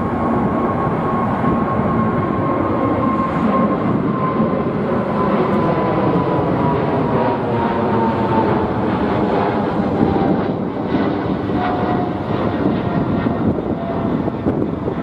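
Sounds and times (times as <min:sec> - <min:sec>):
faint falling jet whine: 0:00.0 - 0:15.0
jet passing overhead: 0:00.0 - 0:15.0.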